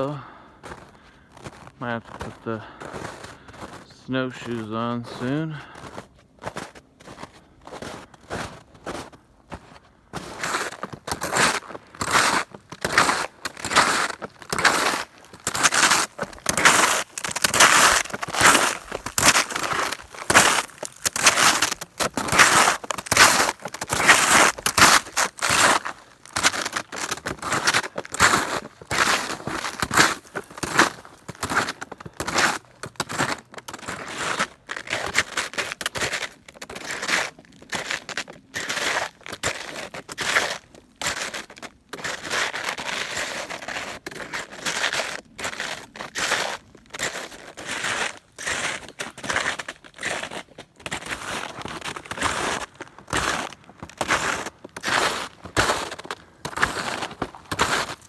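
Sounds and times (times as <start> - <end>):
footsteps crunching in snow: 0.0 - 58.0.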